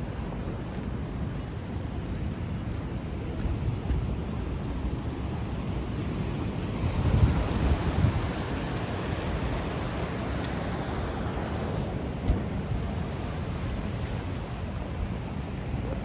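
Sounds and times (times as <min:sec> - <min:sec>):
ocean surf: 0:00.0 - 0:16.0
wind blowing across microphone: 0:00.0 - 0:16.0.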